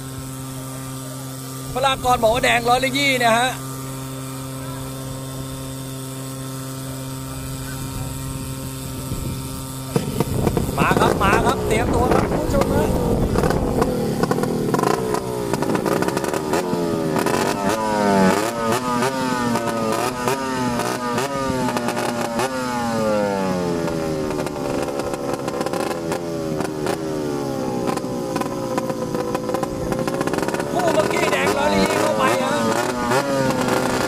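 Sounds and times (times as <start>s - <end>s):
racing boat engines: 0.0s - 34.0s.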